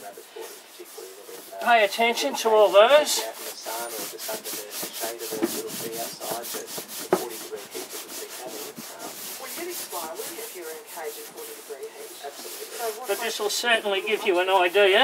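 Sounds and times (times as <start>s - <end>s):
scraper blade scraping wood: 0.3s - 14.8s.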